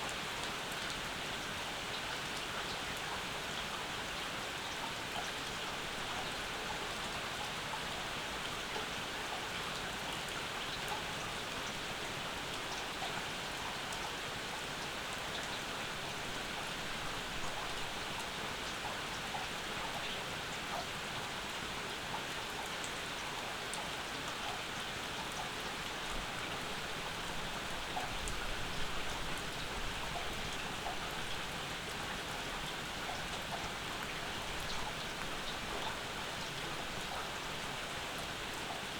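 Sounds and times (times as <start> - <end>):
rain falling: 0.1 - 38.9.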